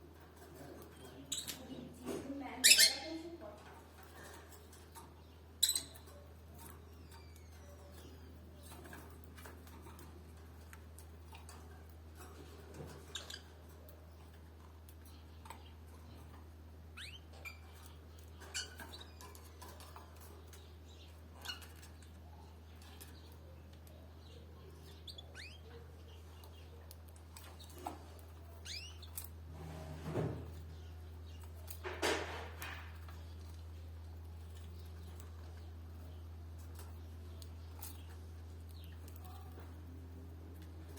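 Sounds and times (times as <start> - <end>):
canaries chirping: 0.0 - 40.9
low electrical hum: 0.0 - 40.9
small clicks and rustles: 3.4 - 40.9.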